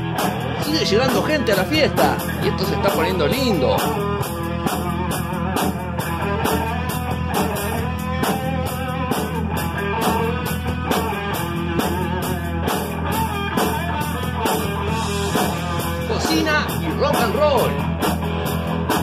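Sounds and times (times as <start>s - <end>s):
bass guitar: 0.0s - 19.0s
drum kit steady beat: 0.0s - 19.0s
lead electric guitar: 0.0s - 19.0s.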